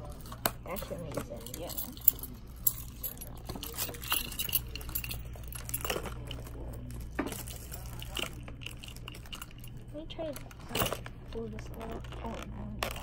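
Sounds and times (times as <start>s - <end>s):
keys clinking: 0.0s - 11.1s.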